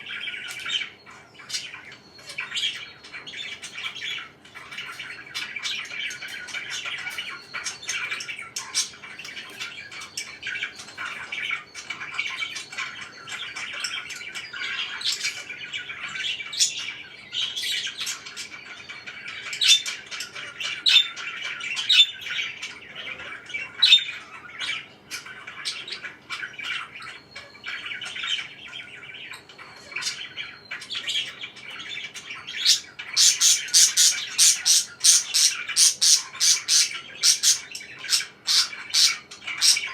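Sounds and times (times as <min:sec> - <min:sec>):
parakeet squawks: 0:00.0 - 0:39.9
parakeets chattering: 0:00.0 - 0:39.9.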